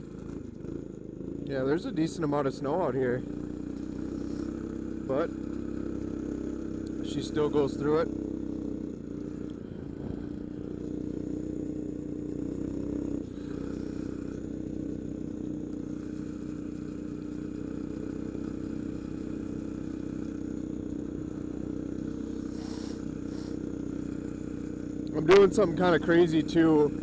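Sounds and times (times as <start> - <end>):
minibike engine running: 0.0 - 27.0.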